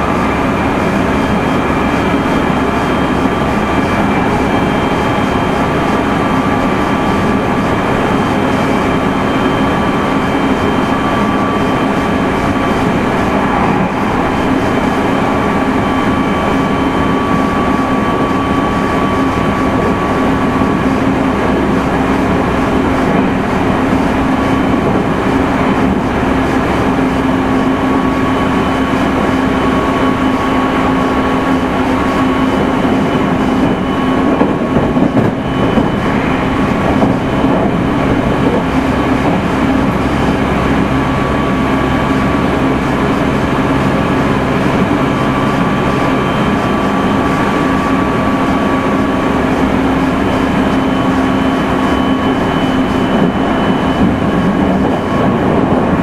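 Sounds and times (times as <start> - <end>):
traction motor whine: 0.0 - 56.0
train wheels rumbling on rail: 0.0 - 56.0.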